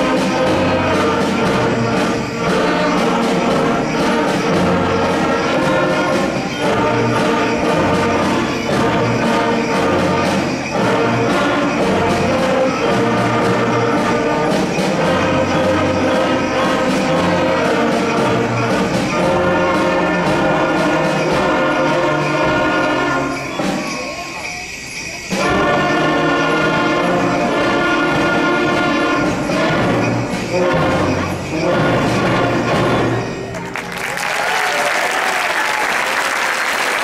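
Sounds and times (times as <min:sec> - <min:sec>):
concert band playing: 0:00.0 - 0:37.0.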